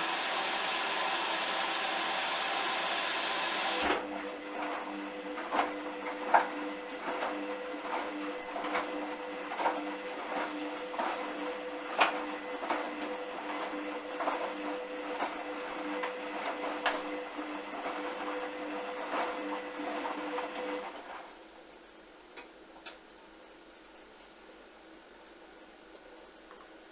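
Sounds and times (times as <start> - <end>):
washing machine motor hum: 0.0 - 21.6.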